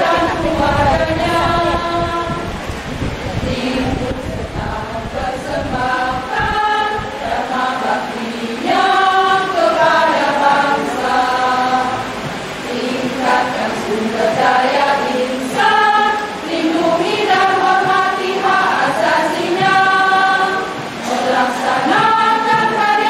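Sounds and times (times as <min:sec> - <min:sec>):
women's choir singing: 0:00.0 - 0:23.0.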